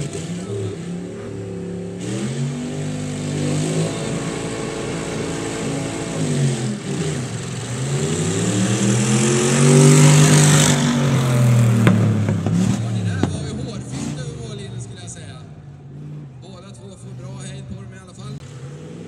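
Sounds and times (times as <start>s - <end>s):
tractor engines at full throttle: 0.0s - 19.0s.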